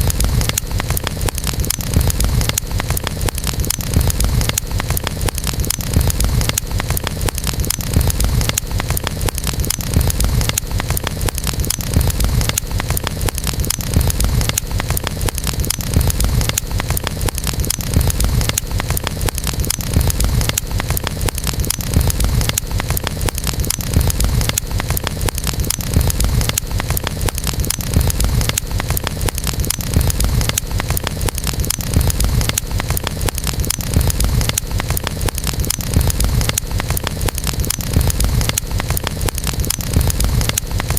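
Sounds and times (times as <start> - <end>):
burning wood crackling: 0.0 - 40.9
campfire flames rumbling: 0.0 - 40.9.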